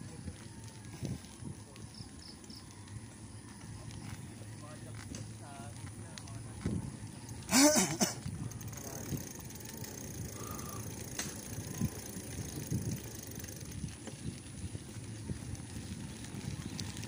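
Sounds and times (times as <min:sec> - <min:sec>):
bike clicks and rattles: 0:00.0 - 0:17.0
bike tyres rumbling on concrete: 0:00.0 - 0:17.0.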